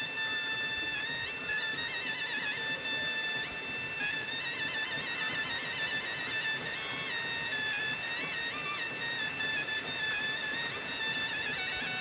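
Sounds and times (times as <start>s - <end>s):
traditional melody over drone: 0.0s - 12.0s.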